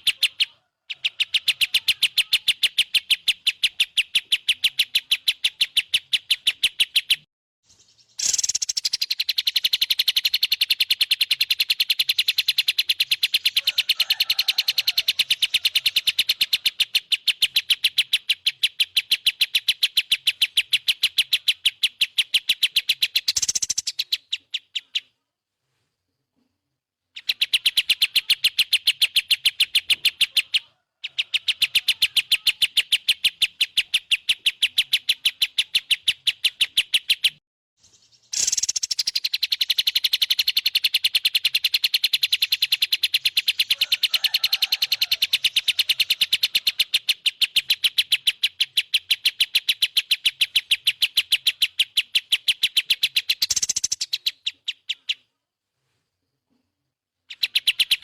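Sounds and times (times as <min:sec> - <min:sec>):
bird chirping rapidly: 0:00.0 - 0:25.2, 0:27.1 - 0:55.3, 0:57.2 - 0:58.0.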